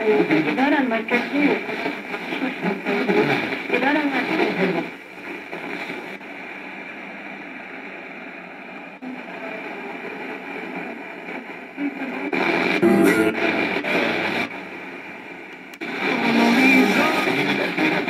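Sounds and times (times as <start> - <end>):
radio static and hiss: 0.0 - 18.0.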